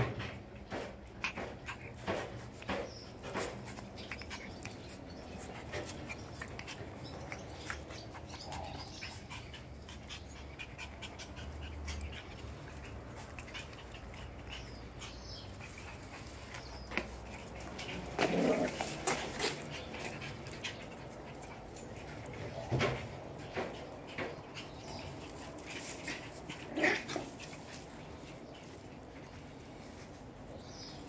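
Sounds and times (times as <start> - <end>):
puppy panting: 0.7 - 31.0.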